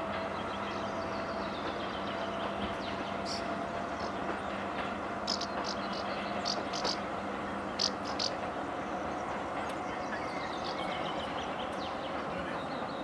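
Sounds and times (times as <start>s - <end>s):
diesel train drone: 0.0s - 13.0s.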